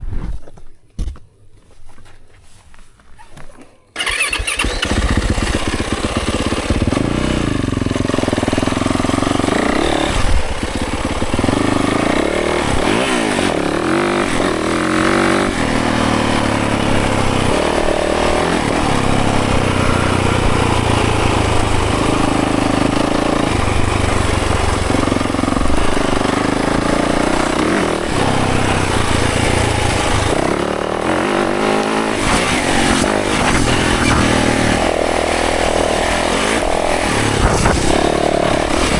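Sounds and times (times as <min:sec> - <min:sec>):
dirt bike engine revving: 0:04.0 - 0:38.9.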